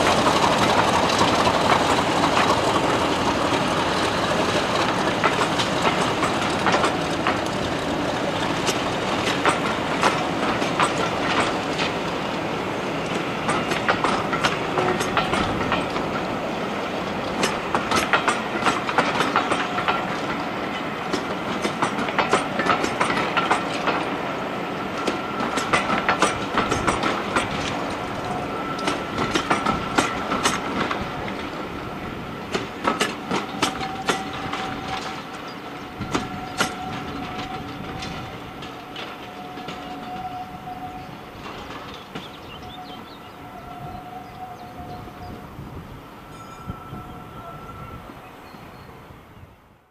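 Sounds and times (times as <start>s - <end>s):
train wheels clickety-clack: 0.0s - 45.4s
diesel locomotive rumble: 0.0s - 48.2s.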